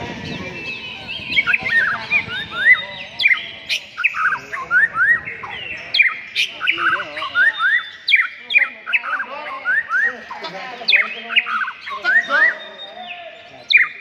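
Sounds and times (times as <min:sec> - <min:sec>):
songbirds chirping and singing: 0:00.0 - 0:14.0.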